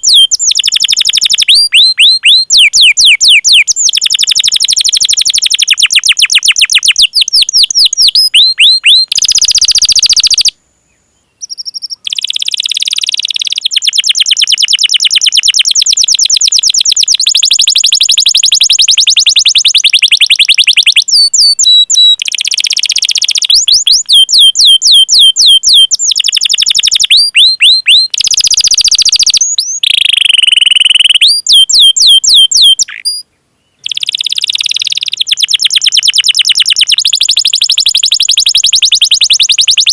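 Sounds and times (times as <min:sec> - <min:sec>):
canary singing trills and chirps: 0:00.0 - 0:10.5, 0:11.3 - 0:33.2, 0:33.8 - 0:39.9.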